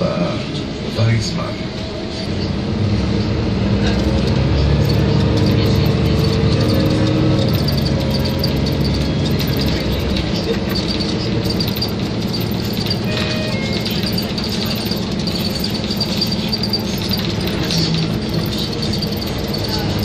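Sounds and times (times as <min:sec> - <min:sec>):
bus engine running: 0:00.0 - 0:20.0
road noise: 0:00.0 - 0:20.0.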